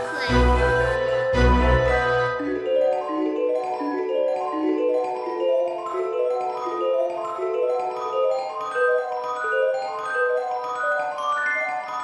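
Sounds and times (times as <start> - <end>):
mallet instrument melody: 0.0 - 12.0.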